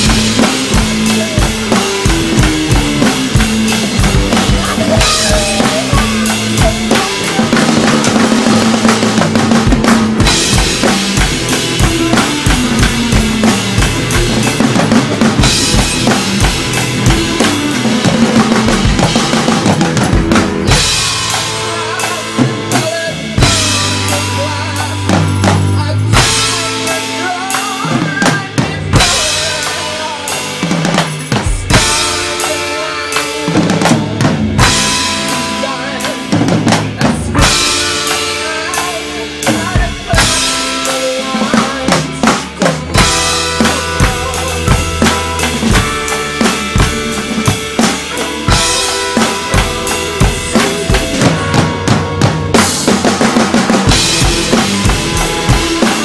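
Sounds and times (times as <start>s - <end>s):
backing track with bass and melody: 0.0s - 56.0s
drum kit played with sticks: 0.0s - 56.0s.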